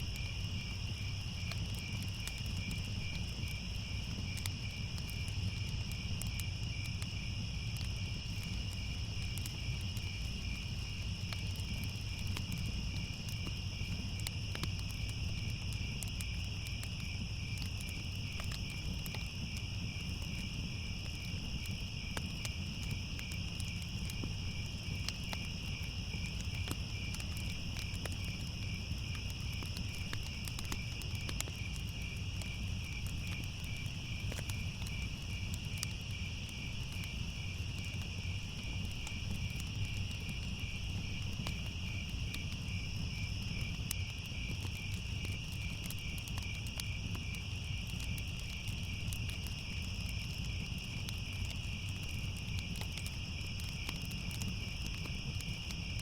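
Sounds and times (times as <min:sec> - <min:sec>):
crickets chirping: 0:00.0 - 0:56.0
wood fire crackling: 0:00.0 - 0:56.0.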